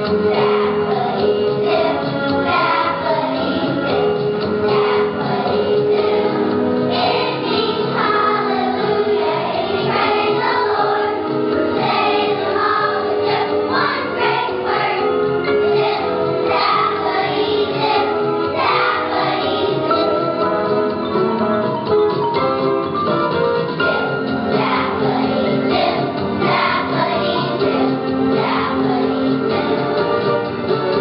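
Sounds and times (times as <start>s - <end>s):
children's choir singing: 0.0s - 20.4s, 23.9s - 31.0s
instrumental accompaniment: 0.0s - 31.0s.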